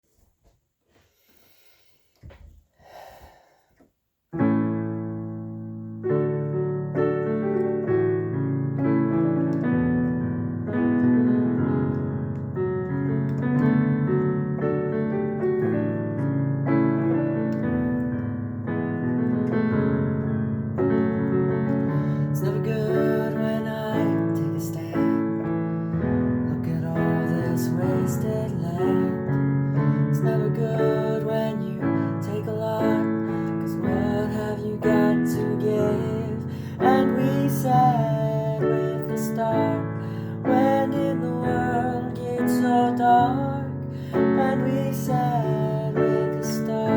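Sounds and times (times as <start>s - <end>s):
keyboard chords and slow melody: 4.4s - 46.9s.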